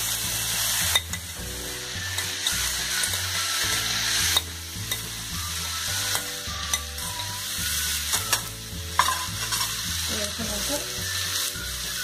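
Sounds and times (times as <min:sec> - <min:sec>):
frying sizzle: 0:00.0 - 0:12.0
rice flakes stirred in pan: 0:00.0 - 0:12.0.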